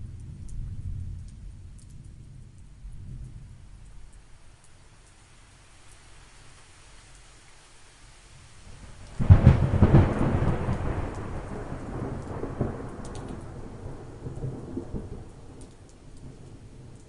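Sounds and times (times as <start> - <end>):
thunderclap with crackling rumble: 0.0 - 5.1, 8.3 - 17.0
light rain: 0.0 - 17.0.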